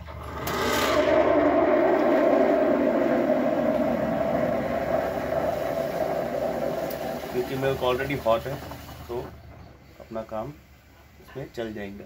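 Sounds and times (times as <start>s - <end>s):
steam wand hissing: 0.9s - 10.8s.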